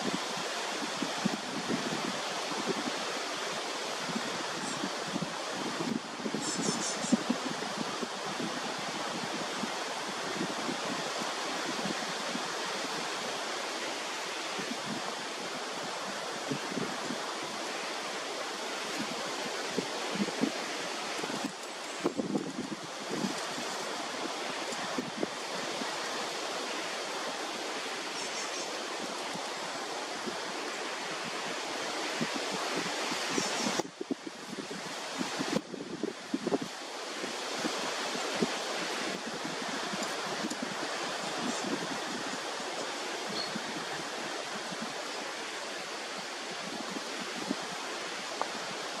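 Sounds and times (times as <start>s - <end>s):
rushing outdoor noise: 0.0s - 49.0s
wind on microphone: 0.0s - 49.0s.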